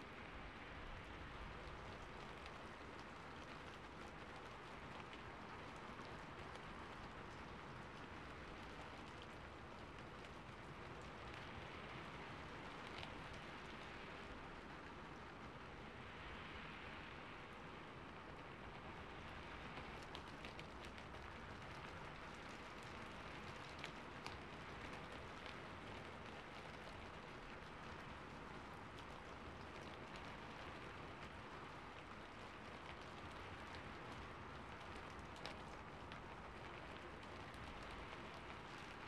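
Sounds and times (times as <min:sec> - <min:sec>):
faint rain: 0:00.0 - 0:39.0.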